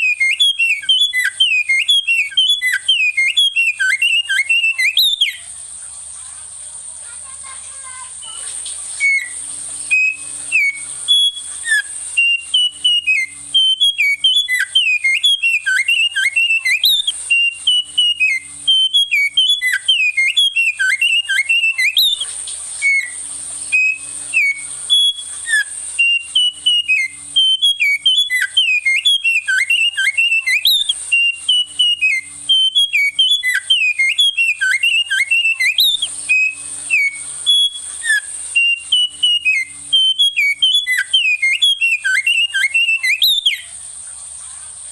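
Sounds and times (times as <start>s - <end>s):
songbird whistling song: 0.0s - 44.9s
steady high hiss: 0.0s - 44.9s.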